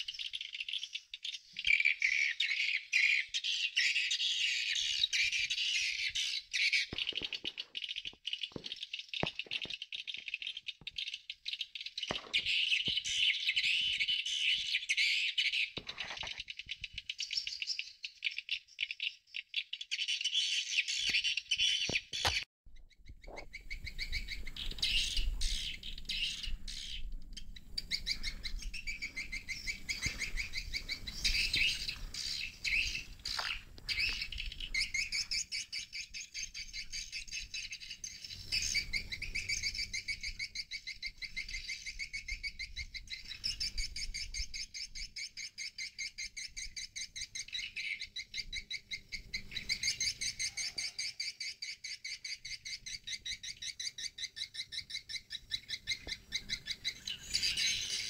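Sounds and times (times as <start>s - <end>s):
recorded bird twittering: 0.0s - 58.0s.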